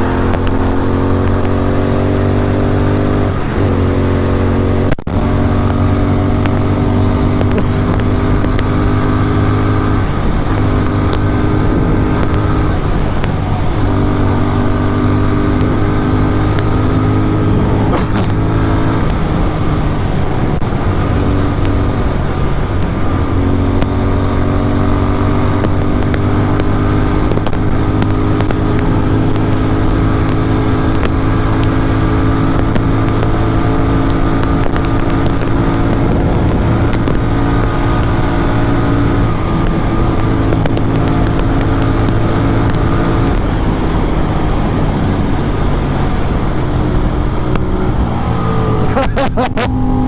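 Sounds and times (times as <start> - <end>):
motorcycle engine cruising: 0.0 - 50.0.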